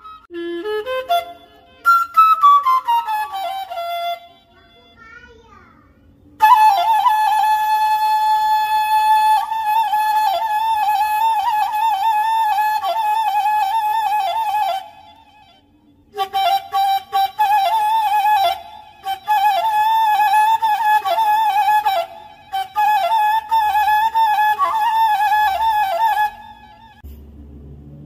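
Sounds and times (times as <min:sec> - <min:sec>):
bamboo flute melody: 0:00.0 - 0:04.9, 0:06.4 - 0:27.2.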